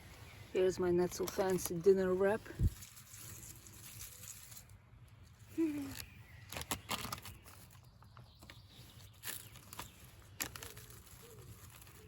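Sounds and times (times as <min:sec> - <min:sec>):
wrap crackling while handled: 0:01.1 - 0:12.0.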